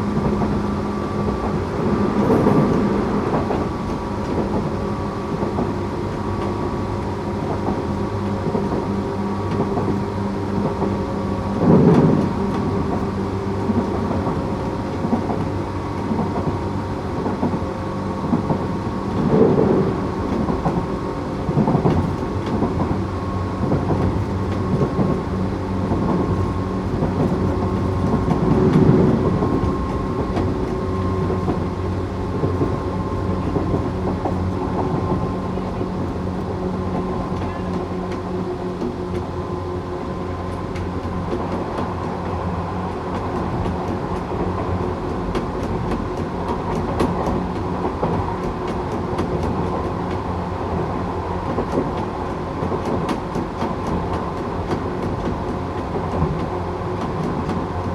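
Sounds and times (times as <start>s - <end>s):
train motor hum: 0.0s - 57.9s
wheels rumbling on rail: 0.0s - 57.9s.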